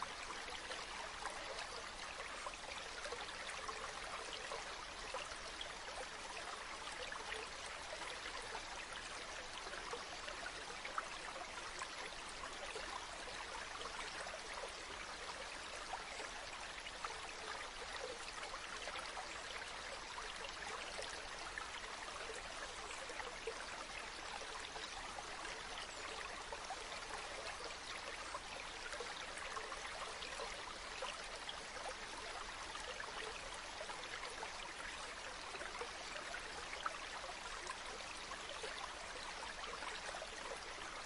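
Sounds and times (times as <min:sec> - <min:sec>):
stream babbling over stones: 0:00.0 - 0:41.0.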